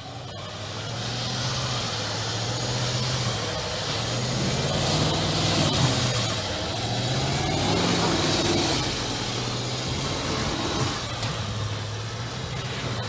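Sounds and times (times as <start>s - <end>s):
car engine drone under load: 0.0s - 13.0s
tyres churning through snow: 0.0s - 13.0s.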